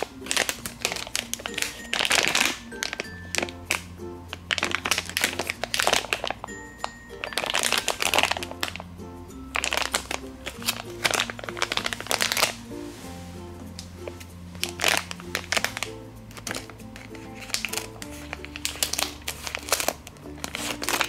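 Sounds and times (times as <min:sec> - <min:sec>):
plastic package crinkling: 0:00.0 - 0:08.9, 0:09.5 - 0:12.9, 0:13.6 - 0:21.0
background music: 0:00.0 - 0:21.0.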